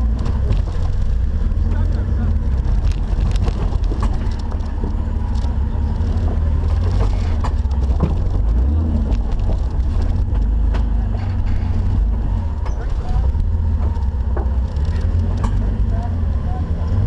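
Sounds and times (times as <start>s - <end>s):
vehicle clicks and knocks: 0.0s - 16.2s
off-road vehicle engine rumbling: 0.0s - 17.0s.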